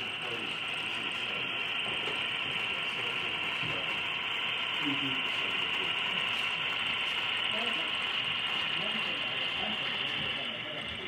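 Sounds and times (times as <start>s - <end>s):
model train rolling on track: 0.0s - 11.0s.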